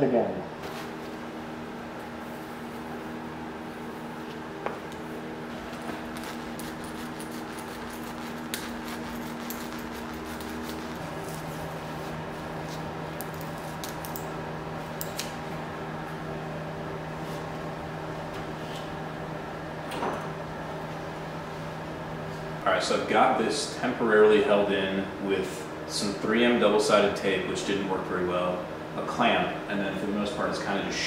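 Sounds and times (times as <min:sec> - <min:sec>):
fan hum: 0:00.0 - 0:31.0.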